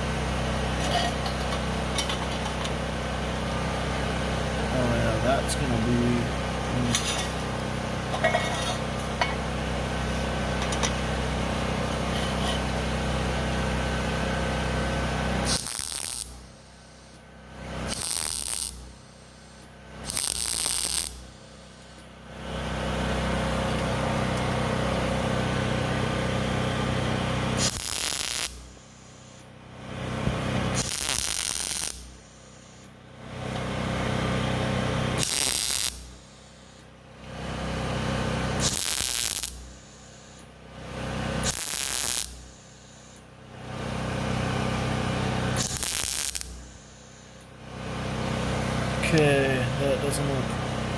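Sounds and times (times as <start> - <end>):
welder crackling and humming: 0.0 - 50.9.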